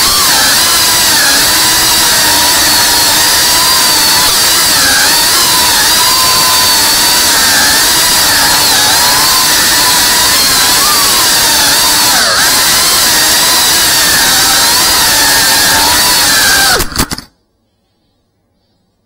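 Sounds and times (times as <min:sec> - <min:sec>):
drone motors whining: 0:00.0 - 0:17.3.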